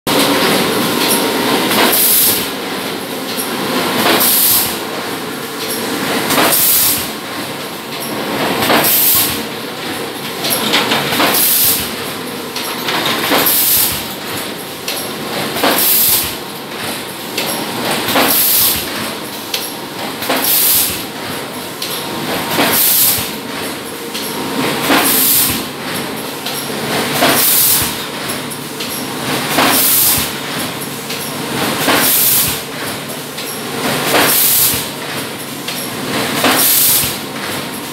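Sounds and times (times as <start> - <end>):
machine mechanical clatter: 0.1 - 37.9.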